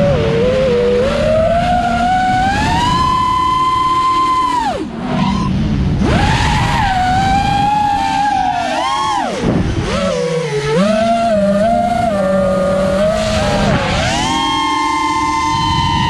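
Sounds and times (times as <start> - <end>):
wind rush: 0.0 - 8.6, 9.3 - 10.1, 10.7 - 16.0
quadcopter motors whining: 0.0 - 16.0.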